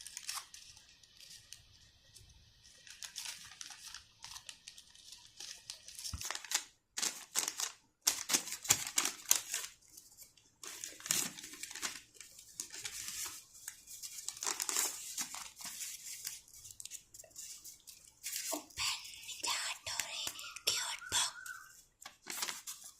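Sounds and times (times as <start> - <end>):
plastic wrapper crinkling: 0.0 - 22.9.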